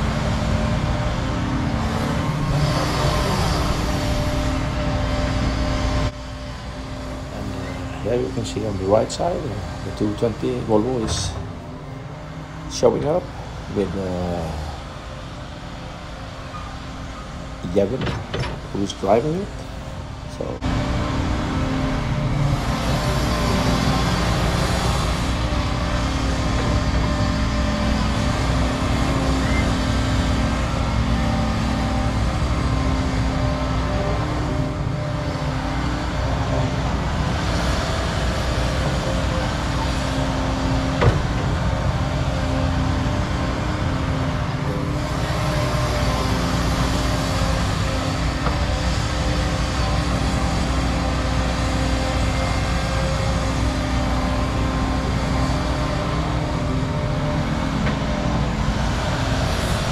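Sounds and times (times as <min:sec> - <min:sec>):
excavator engine drone: 0:00.0 - 0:59.9
hydraulic whine: 0:00.0 - 0:59.9.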